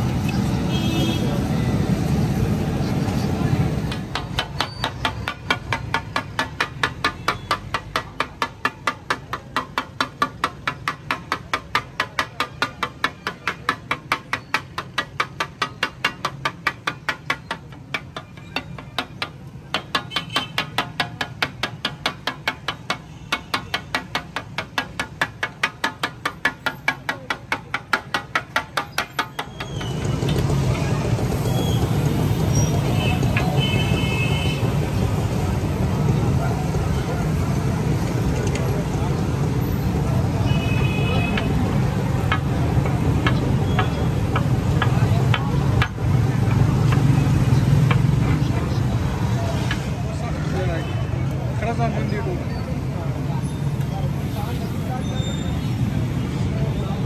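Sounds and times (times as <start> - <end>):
street traffic noise: 0.0 - 57.0.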